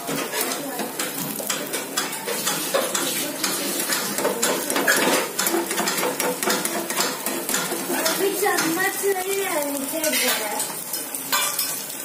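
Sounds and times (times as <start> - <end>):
omelette sizzling: 0.0 - 12.0
spatula scraping frying pan: 0.0 - 12.0.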